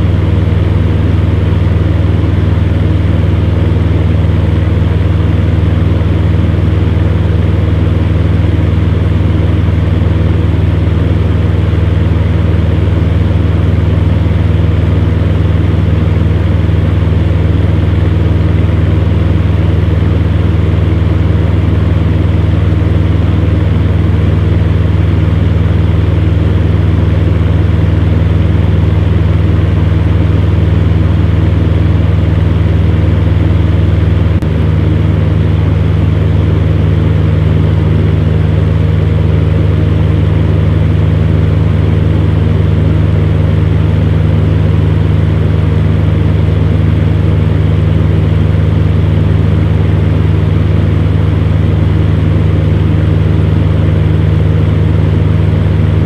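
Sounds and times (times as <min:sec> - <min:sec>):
fan heater running: 0:00.0 - 0:56.0.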